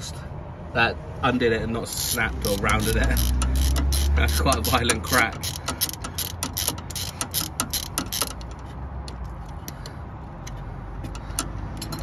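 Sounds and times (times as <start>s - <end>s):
socket ratchet clicking: 2.0s - 12.0s.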